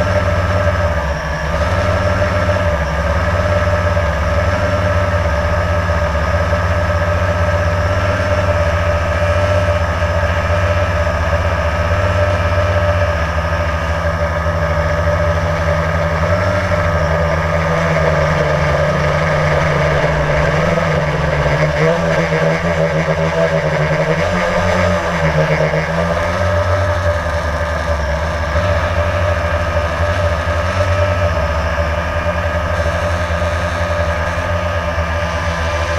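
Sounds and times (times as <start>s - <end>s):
aircraft propeller buzzing whine: 0.0s - 35.9s.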